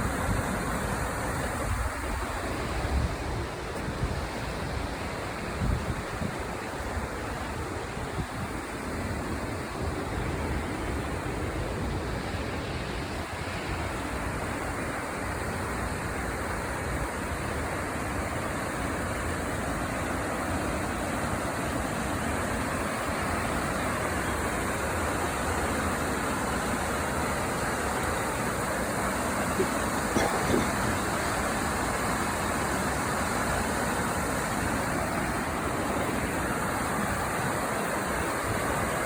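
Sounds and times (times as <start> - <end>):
creek water flowing: 0.0 - 39.0.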